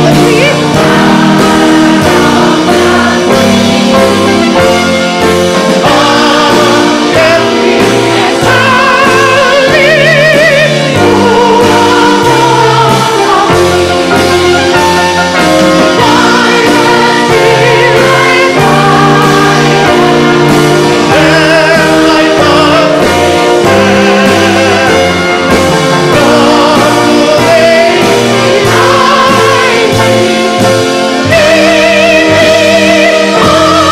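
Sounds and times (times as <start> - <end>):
operatic singing voice: 0.0 - 4.6, 5.8 - 14.4, 15.3 - 33.9
instrumental accompaniment: 0.0 - 33.9
many voices singing along: 0.0 - 33.9.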